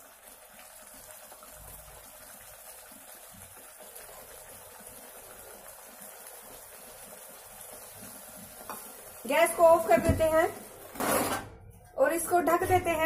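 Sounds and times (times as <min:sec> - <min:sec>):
gravy simmering with faint hiss: 0:00.0 - 0:13.0.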